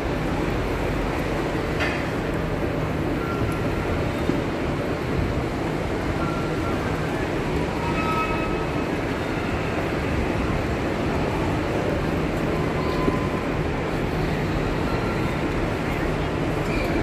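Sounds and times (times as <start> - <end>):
hubbub of passengers: 0.0 - 17.0.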